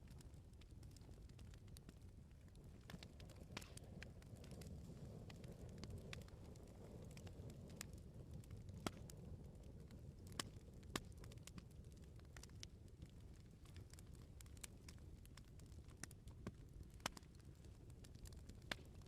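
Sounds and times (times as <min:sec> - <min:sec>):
firewood crackling: 0:00.0 - 0:19.0
low rumble of flames: 0:00.0 - 0:19.0.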